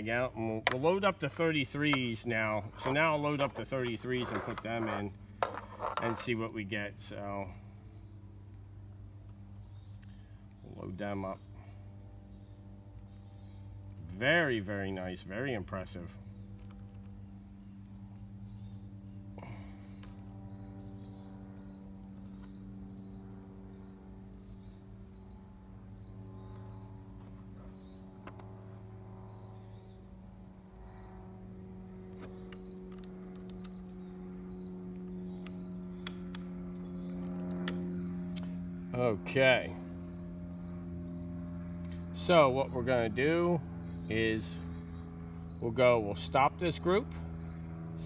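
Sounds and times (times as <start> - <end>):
crickets chirping: 0.0 - 48.0
high-pitched insect buzz: 0.0 - 48.0
low steady hum: 0.0 - 48.0.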